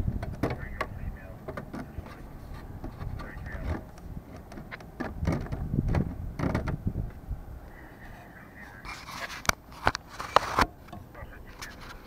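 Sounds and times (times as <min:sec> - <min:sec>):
quiet rubbing: 0:00.6 - 0:06.2, 0:07.6 - 0:12.0.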